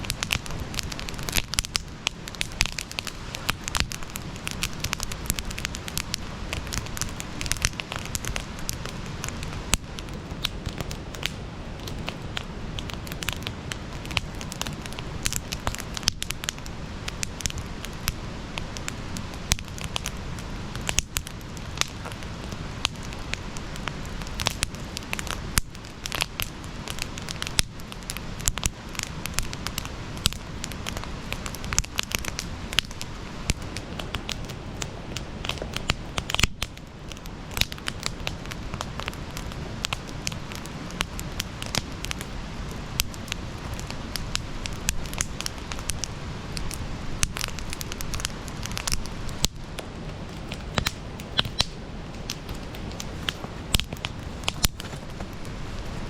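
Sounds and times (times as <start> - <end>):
campfire crackling and popping: 0.0 - 56.0
low rush of flame: 0.0 - 56.0.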